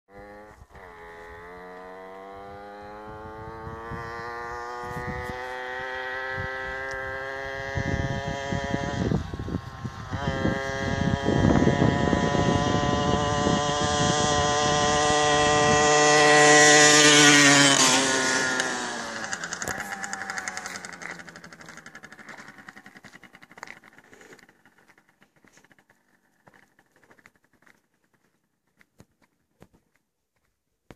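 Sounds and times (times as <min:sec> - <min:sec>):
moped engine passing by: 0:00.1 - 0:28.2.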